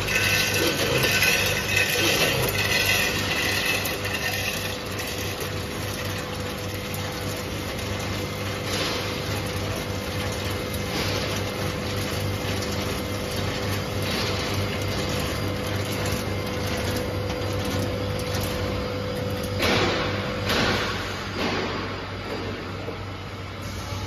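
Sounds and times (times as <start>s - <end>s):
nuts rattling through hoppers: 0.0s - 20.8s
machine hum: 0.0s - 24.0s.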